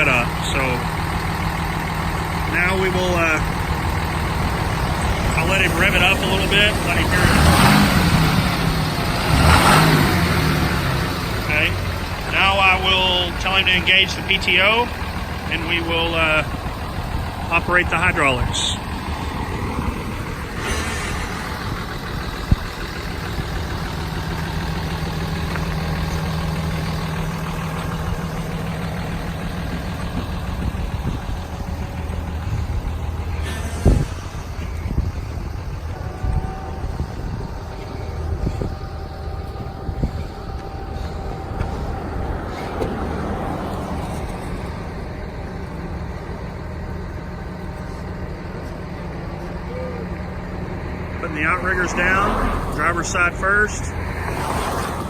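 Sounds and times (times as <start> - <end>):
diesel truck idling: 0.0 - 55.0.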